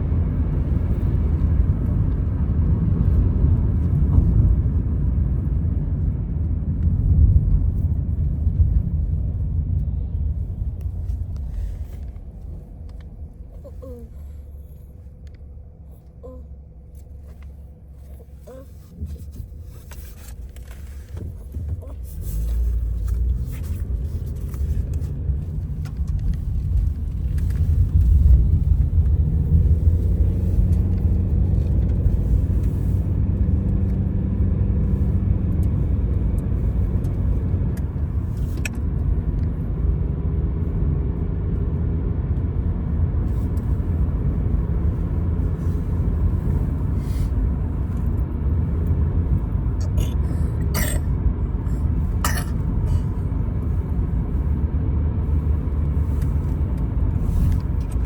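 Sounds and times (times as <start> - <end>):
engine rumbling: 0.0 - 58.0.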